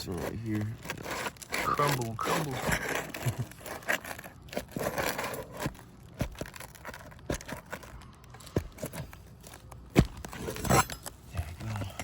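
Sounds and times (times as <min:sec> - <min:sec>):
roof shingle crackling and crumbling: 0:00.0 - 0:12.0
tool scraping shingles: 0:00.0 - 0:12.0.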